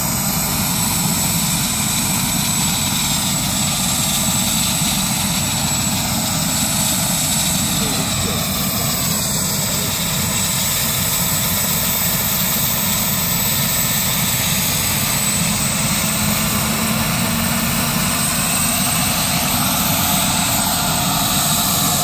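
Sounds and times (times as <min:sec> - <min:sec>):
helicopter rotor chopping: 0:00.0 - 0:22.0
high turbine whine: 0:00.0 - 0:22.0.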